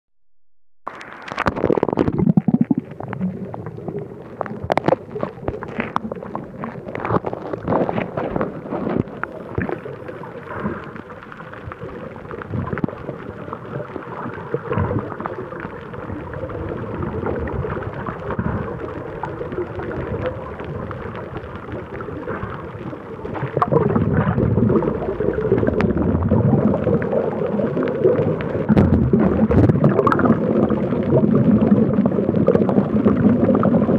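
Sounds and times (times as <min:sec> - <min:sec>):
muffled underwater noise: 0:00.9 - 0:33.9.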